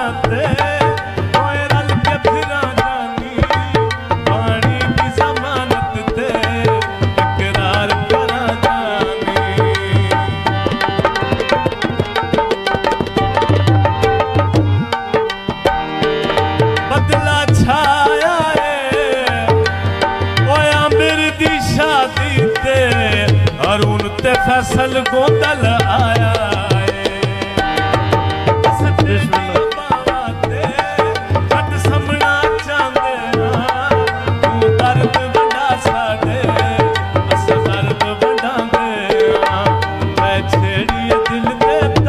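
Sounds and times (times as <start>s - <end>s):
tabla beat: 0.0s - 42.0s.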